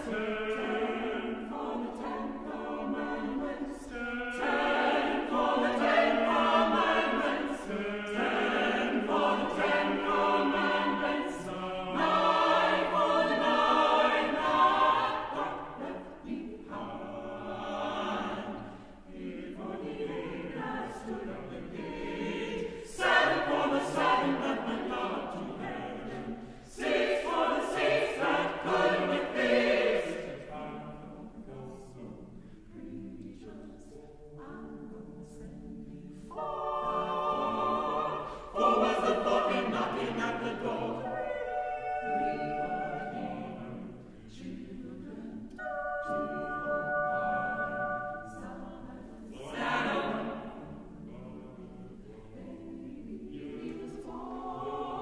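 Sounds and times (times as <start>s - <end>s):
mixed choir singing in harmony: 0.0s - 55.0s.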